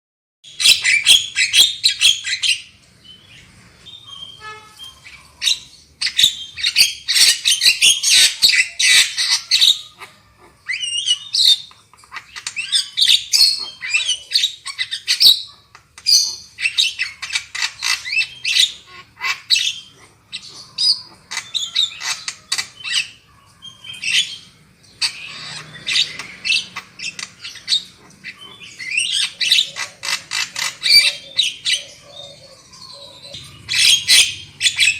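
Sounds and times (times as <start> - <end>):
bird chattering and squawking: 0.5 - 34.9.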